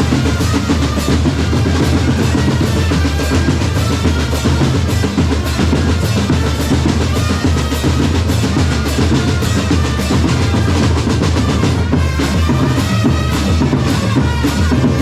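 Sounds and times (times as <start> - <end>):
bass drums and snare drums: 0.0 - 15.0.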